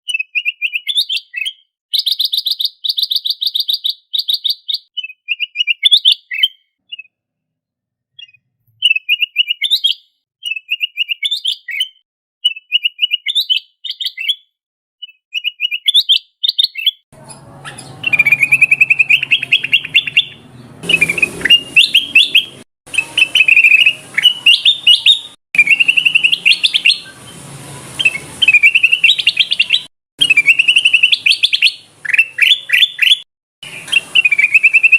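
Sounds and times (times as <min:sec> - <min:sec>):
bird singing whistled phrases: 0:00.0 - 0:07.1, 0:08.2 - 0:14.4, 0:15.0 - 0:34.9.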